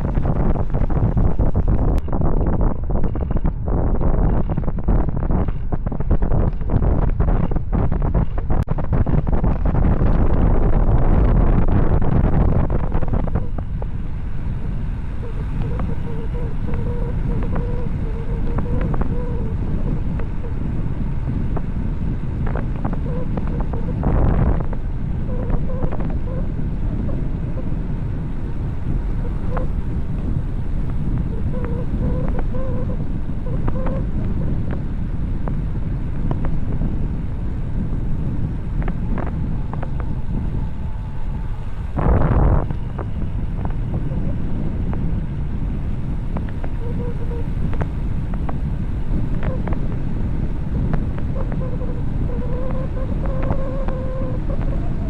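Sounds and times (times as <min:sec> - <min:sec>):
faint whine: 0:00.0 - 0:55.0
road rumble: 0:00.0 - 0:55.0
wind buffeting microphone: 0:00.0 - 0:55.0.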